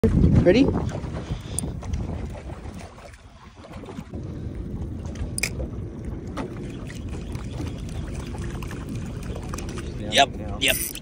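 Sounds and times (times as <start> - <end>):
wind on microphone: 0.0 - 10.8
boat motor running: 0.0 - 11.0.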